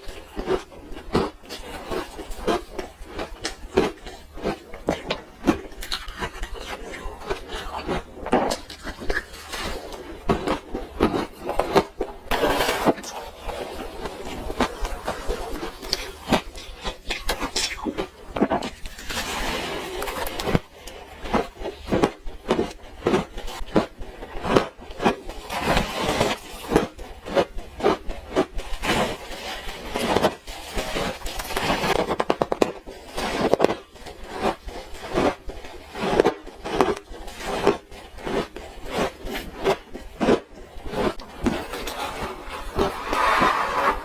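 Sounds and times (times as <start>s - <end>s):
crunching and chewing ice: 0.0s - 43.9s.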